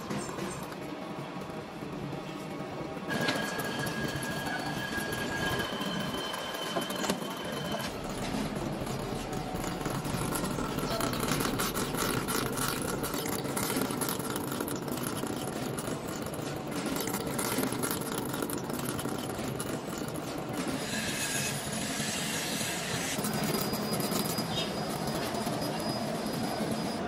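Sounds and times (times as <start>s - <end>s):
clanks and clatter: 0.0s - 27.0s
machinery running: 0.0s - 27.0s.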